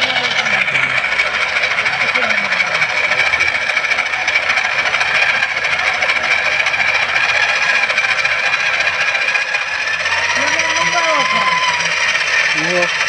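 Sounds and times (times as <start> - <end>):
electric drill grinding: 0.0 - 13.0.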